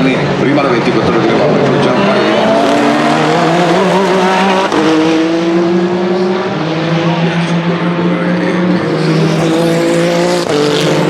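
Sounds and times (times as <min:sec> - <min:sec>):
race car engines accelerating: 0:00.0 - 0:11.0.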